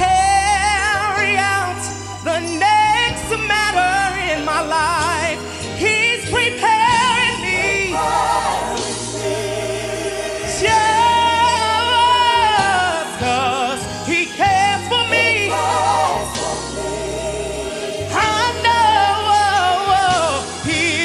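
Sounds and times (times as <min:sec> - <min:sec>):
man singing gospel with vibrato: 0:00.0 - 0:21.0.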